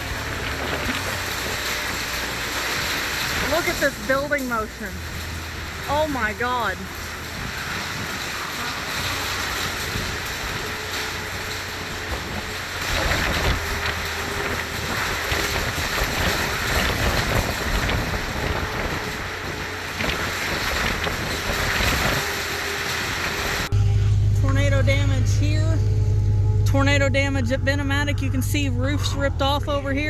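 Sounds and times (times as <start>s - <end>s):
wind and rain buffeting microphone: 0.0s - 26.1s.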